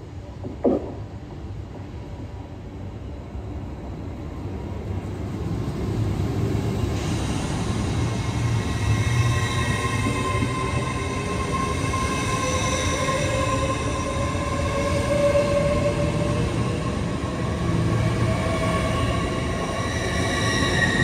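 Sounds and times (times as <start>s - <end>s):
train running past: 0.0s - 21.0s.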